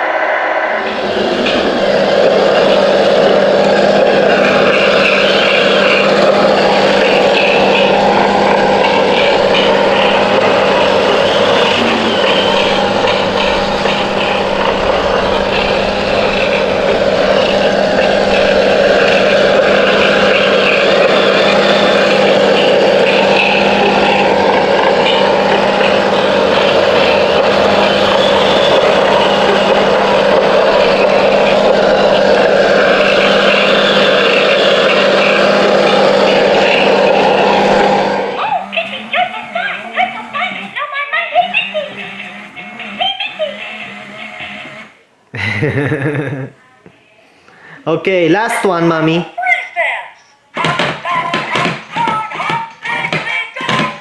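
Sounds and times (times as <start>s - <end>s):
toy vehicle motor whine: 0.8s - 45.0s.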